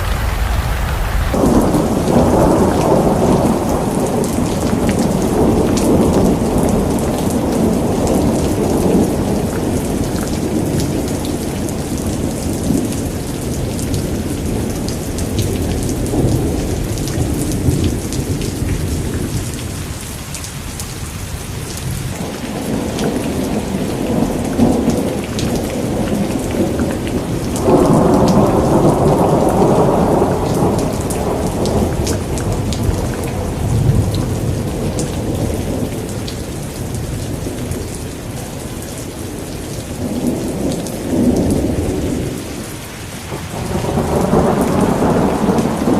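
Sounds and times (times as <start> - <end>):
rolling thunder: 0.0 - 20.1, 21.8 - 42.7, 43.3 - 45.9
heavy rain pattering: 0.0 - 45.9.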